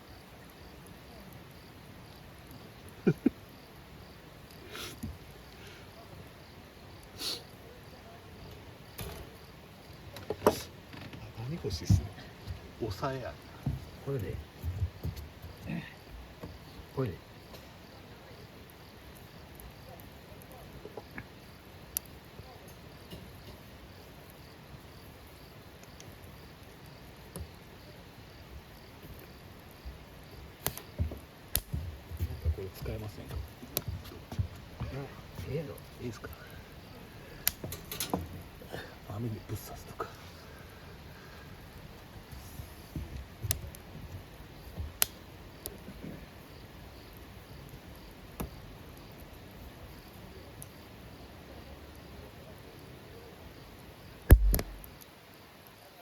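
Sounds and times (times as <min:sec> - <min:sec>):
campfire crackling: 0:00.0 - 0:56.0
insect chirping: 0:00.0 - 0:56.0.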